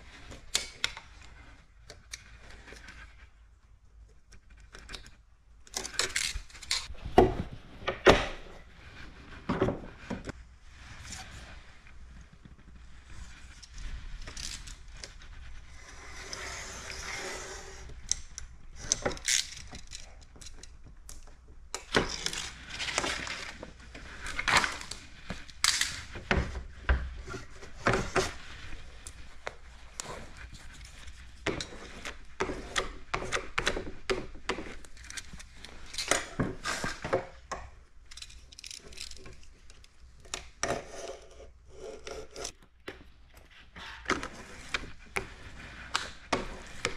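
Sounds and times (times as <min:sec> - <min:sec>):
plastic film scraping and rustling: 0:05.7 - 0:07.0, 0:08.6 - 0:46.9.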